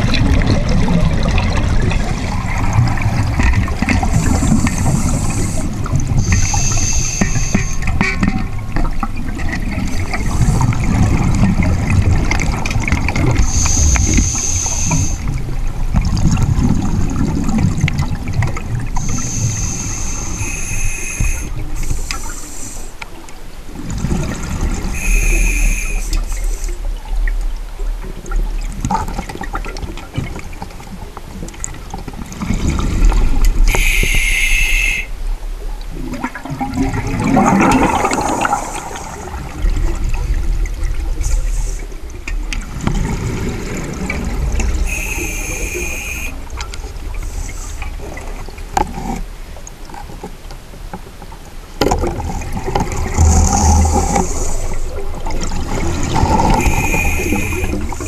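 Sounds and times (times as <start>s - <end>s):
exhaled bubbles underwater: 0.0s - 22.8s, 23.7s - 50.1s, 51.8s - 58.0s
low rushing of water: 0.0s - 58.0s.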